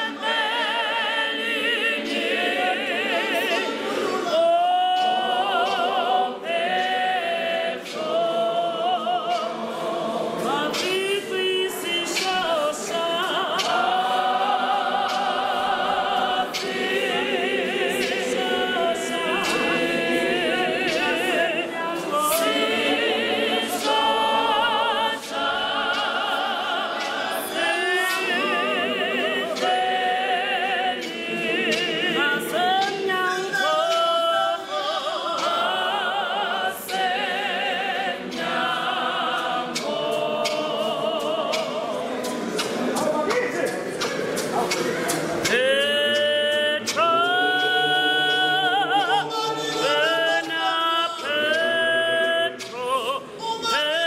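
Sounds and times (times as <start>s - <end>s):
female choir singing a cappella: 0.0s - 54.0s.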